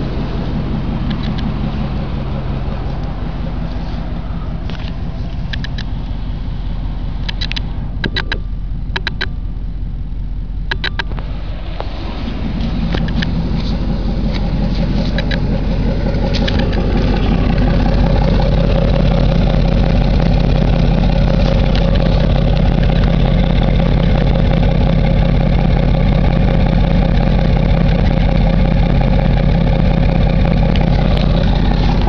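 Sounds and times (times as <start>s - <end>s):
pickup truck engine idling: 0.0s - 32.0s.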